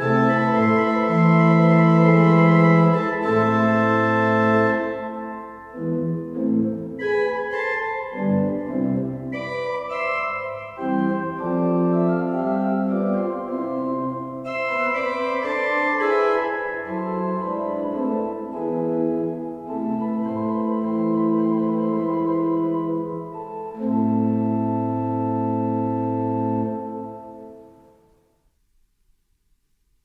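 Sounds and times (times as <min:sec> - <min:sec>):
pipe organ chords: 0:00.0 - 0:28.2.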